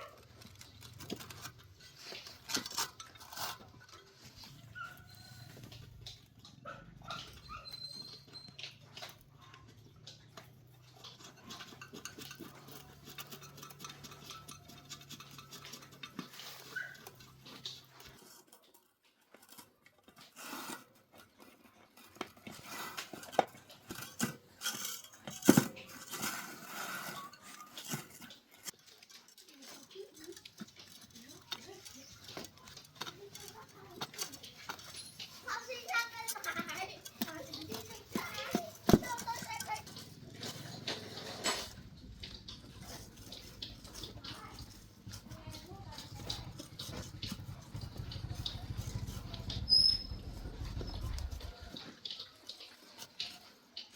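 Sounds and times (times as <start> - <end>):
metal tools and parts clinking: 0.0 - 53.9.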